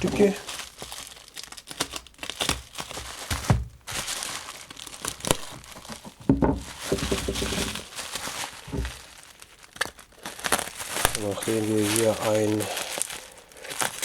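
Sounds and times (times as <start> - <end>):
packaging crinkling: 0.0 - 14.0
packaging tearing: 0.0 - 14.0.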